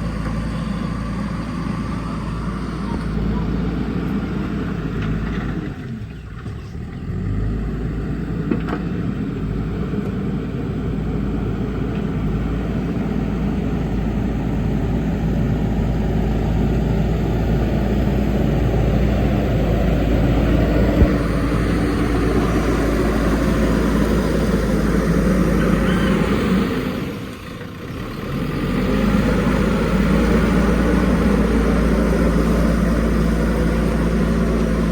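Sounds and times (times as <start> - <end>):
backhoe diesel engine running: 0.0 - 34.9.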